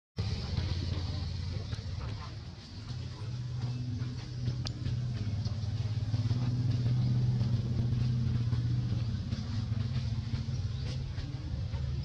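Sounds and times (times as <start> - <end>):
vehicle engine humming: 0.2 - 12.0.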